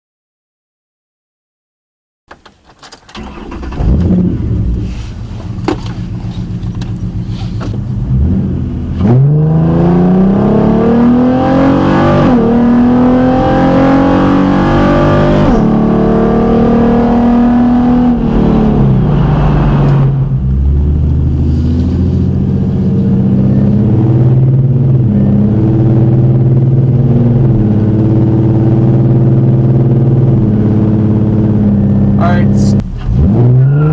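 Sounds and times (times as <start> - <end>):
car engine accelerating hard: 3.2 - 33.9.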